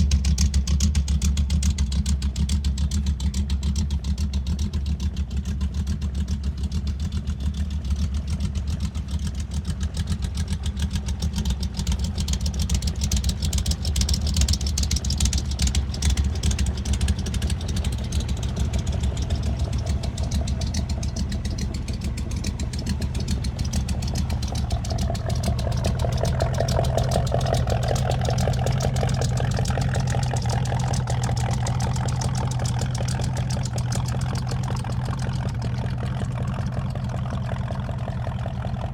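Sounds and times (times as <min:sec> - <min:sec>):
car exhaust idling: 0:00.0 - 0:38.9.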